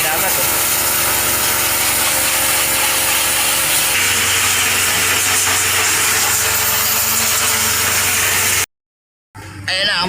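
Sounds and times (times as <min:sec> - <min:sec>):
harsh scrubbing: 0:00.0 - 0:08.6.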